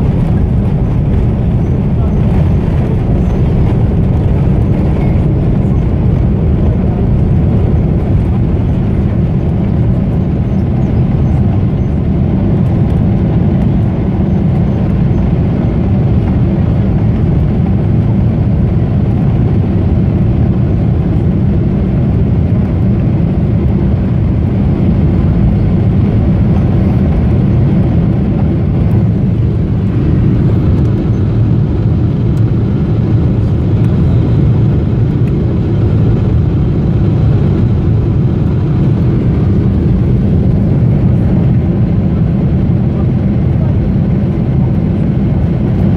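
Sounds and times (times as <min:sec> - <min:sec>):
jet engines low roar: 0:00.0 - 0:45.9.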